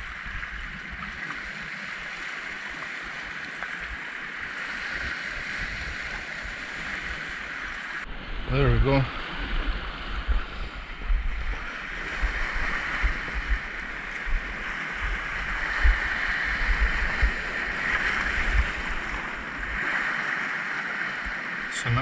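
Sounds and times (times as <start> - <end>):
waves washing against rocks: 0.0 - 22.0
wind buffeting the microphone: 0.0 - 22.0.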